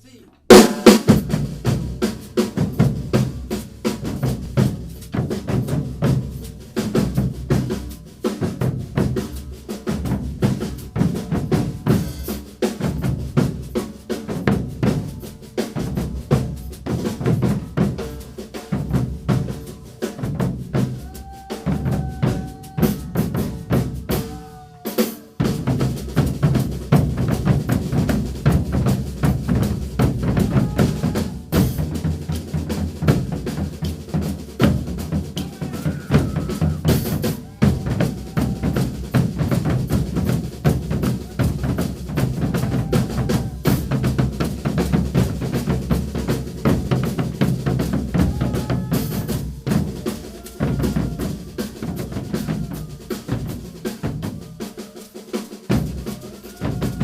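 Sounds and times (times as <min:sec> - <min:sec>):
fast snare drum strokes: 0:00.0 - 0:57.0
deep bass drums: 0:00.5 - 0:24.4, 0:25.4 - 0:54.6.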